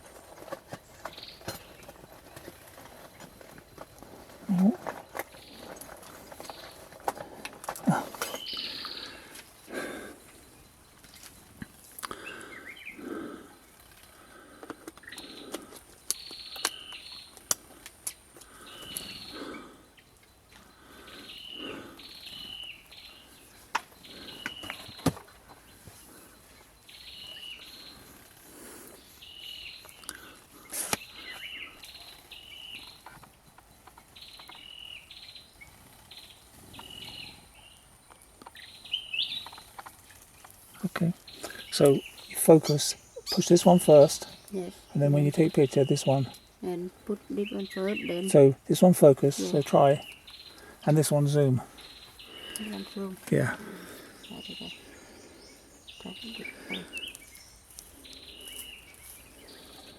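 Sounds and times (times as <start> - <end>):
bird chirps: 7.9 - 13.8, 15.0 - 17.5, 18.5 - 59.9.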